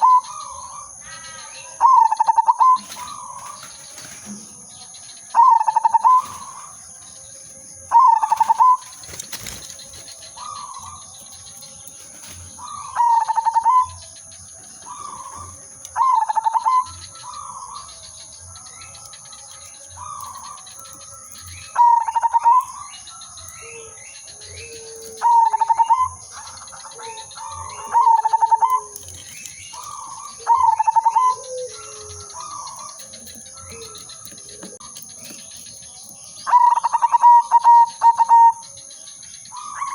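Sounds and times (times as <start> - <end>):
doves cooing: 0.0 - 38.8.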